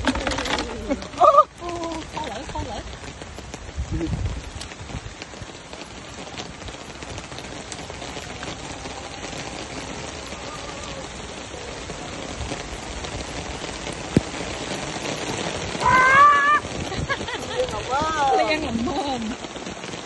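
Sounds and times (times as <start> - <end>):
watery pattering and crackling: 0.0 - 20.0.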